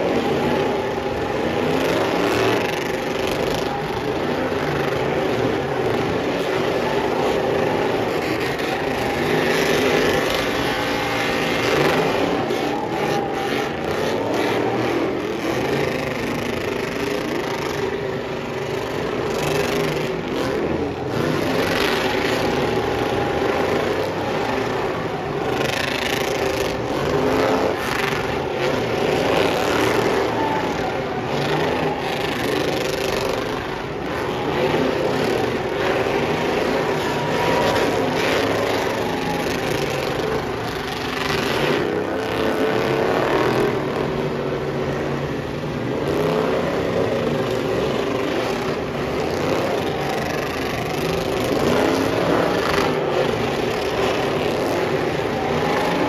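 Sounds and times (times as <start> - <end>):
truck engines revving: 0.0 - 56.0.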